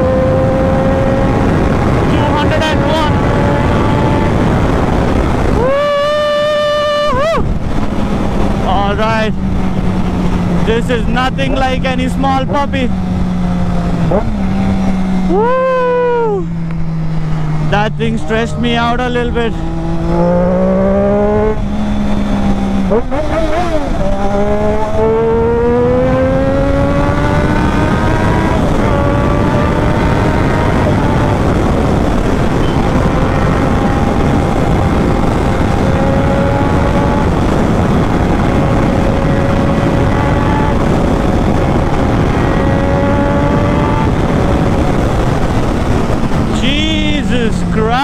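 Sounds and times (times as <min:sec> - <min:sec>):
motorcycle engine revving: 0:00.0 - 0:48.0
wind noise on microphone: 0:00.0 - 0:48.0.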